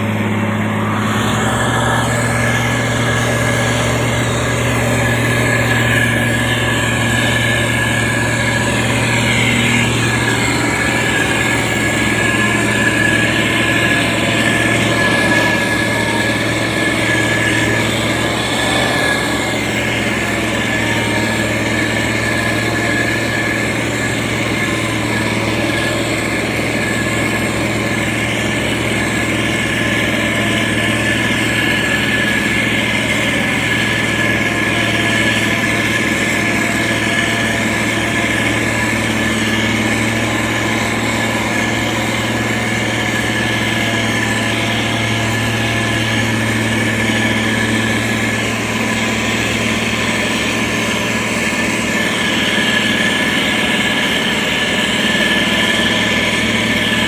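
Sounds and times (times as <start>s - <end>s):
motor grader diesel engine running: 0.0s - 57.0s.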